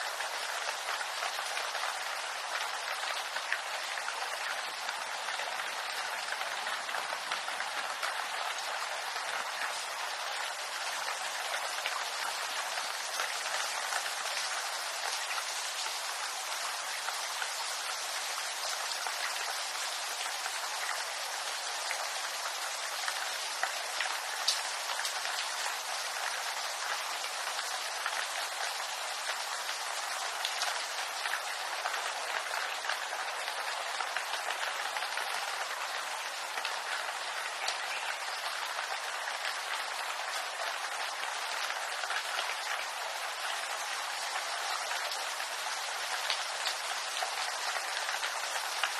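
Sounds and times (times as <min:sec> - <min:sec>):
rain on bamboo leaves: 0:00.0 - 0:48.9.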